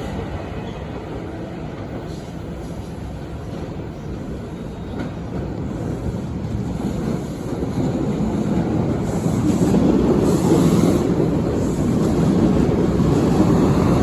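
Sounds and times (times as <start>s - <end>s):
electric train wheels rumbling: 0.0s - 14.0s.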